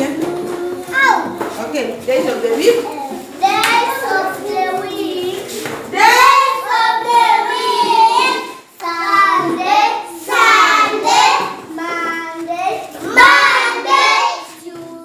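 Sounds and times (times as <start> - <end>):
children singing a chant: 0.0 - 1.5, 3.1 - 15.0.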